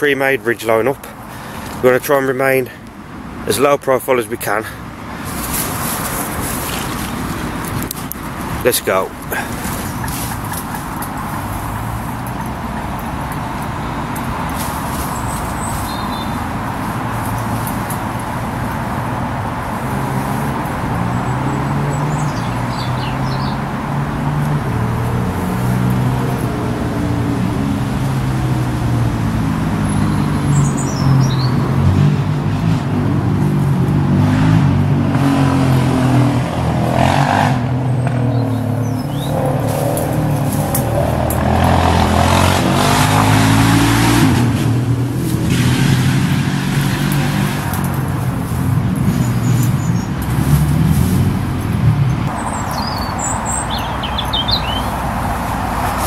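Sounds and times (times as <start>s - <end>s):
cars passing: 0.0s - 56.0s
road traffic engines humming: 0.0s - 56.0s.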